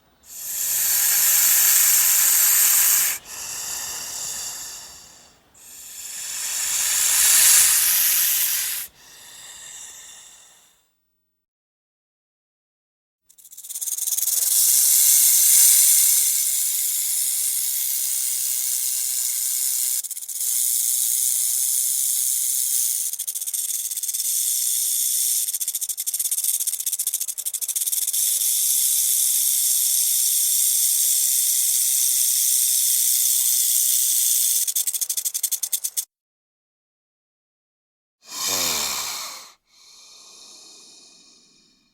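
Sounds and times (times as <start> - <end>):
snake hissing: 0.0 - 10.8, 13.4 - 36.1, 38.2 - 41.9.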